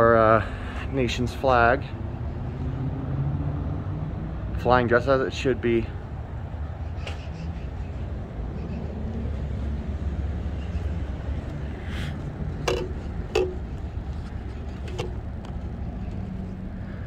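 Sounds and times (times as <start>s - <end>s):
traffic rumble: 0.0s - 17.0s
wind: 0.0s - 17.0s.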